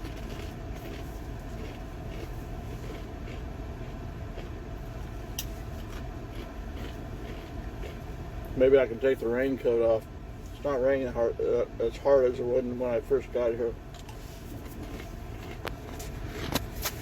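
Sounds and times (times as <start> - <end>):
truck engine rumble from cab: 0.0 - 17.0.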